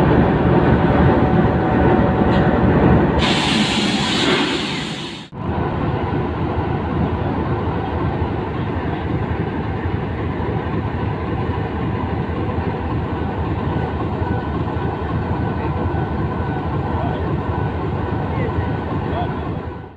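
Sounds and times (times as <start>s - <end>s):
locomotive idling: 0.0s - 19.9s.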